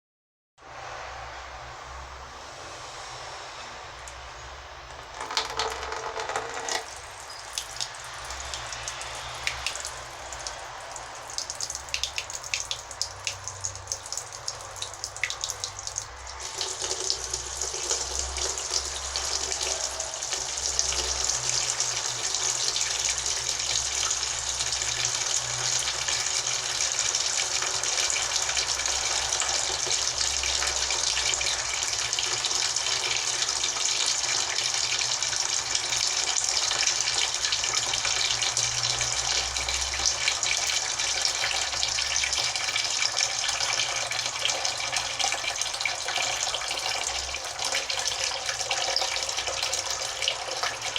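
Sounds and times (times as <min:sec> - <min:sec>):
tap water running and splashing: 0:04.9 - 0:50.9.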